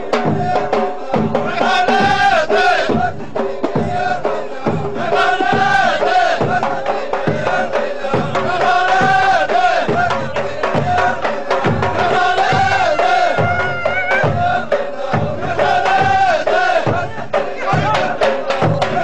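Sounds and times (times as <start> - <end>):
frame drums beating: 0.0 - 19.0
men's choir chanting: 0.0 - 19.0.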